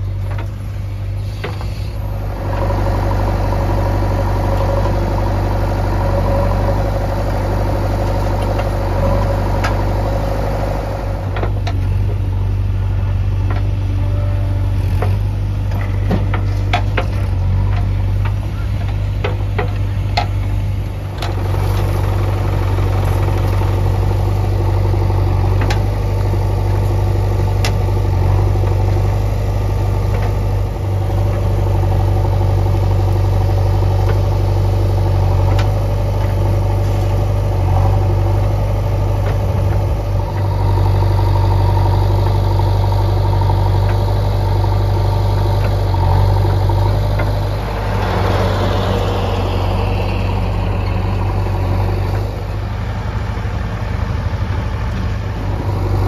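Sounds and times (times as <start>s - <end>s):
diesel engines idling: 0.0s - 56.0s
engine revving: 1.2s - 12.2s, 20.9s - 56.0s.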